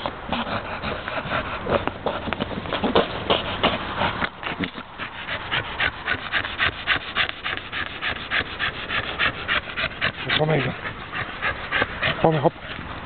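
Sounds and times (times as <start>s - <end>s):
dog panting fast: 0.0s - 13.0s.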